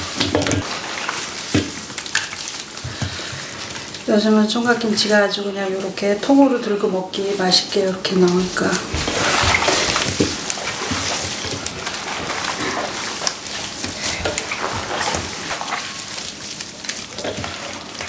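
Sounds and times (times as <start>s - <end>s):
wet squelching and rustling: 0.0s - 6.5s, 7.1s - 18.0s.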